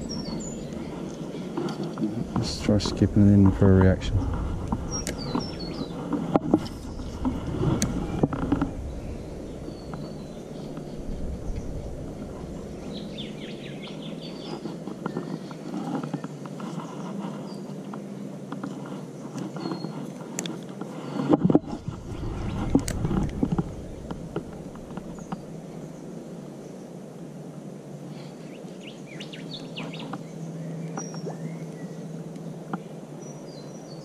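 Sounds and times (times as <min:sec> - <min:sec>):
birds chirping: 0:00.0 - 0:27.2, 0:27.9 - 0:34.0.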